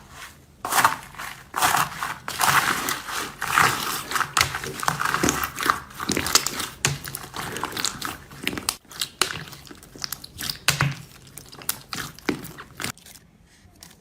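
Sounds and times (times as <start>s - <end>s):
slime popping and crackling: 0.7s - 13.0s.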